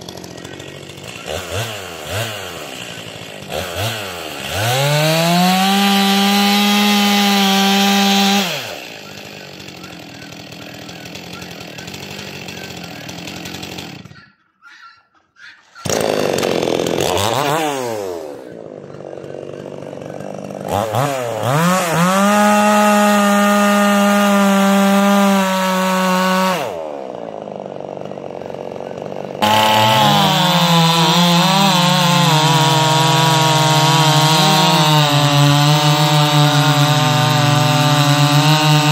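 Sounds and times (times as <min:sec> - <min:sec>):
chainsaw engine revving: 0:00.0 - 0:14.4, 0:15.7 - 0:38.9.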